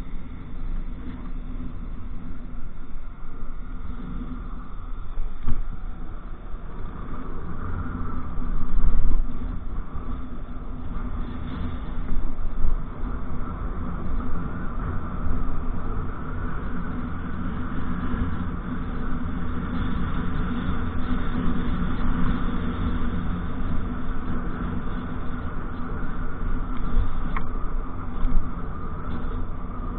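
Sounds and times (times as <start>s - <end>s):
road and wind rumble: 0.0s - 29.9s.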